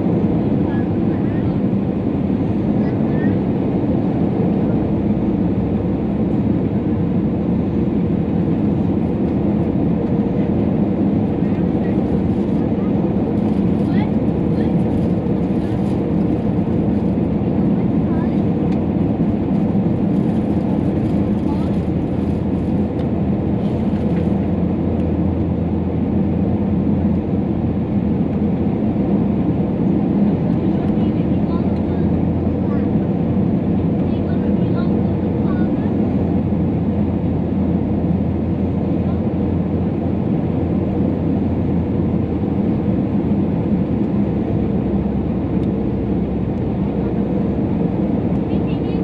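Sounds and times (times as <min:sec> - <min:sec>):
airplane cabin rumble: 0:00.0 - 0:49.0.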